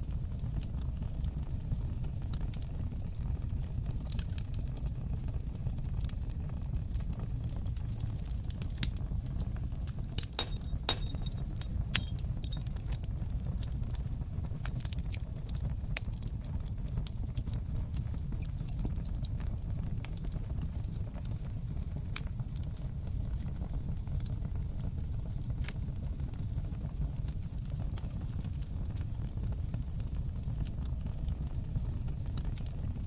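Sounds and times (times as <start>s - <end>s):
fire popping and snapping: 0.0s - 33.0s
low rumble of flames: 0.0s - 33.0s.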